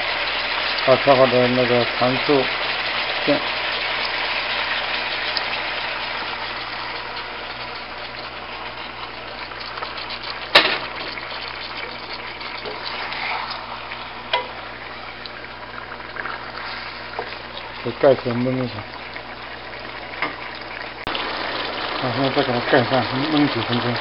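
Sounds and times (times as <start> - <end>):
fish sizzling in a wok: 0.0 - 18.4, 19.3 - 24.0.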